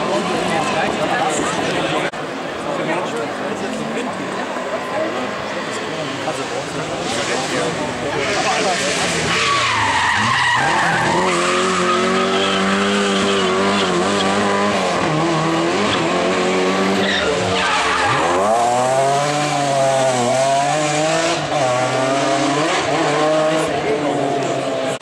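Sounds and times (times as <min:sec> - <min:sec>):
rally car engines revving: 0:00.0 - 0:25.0.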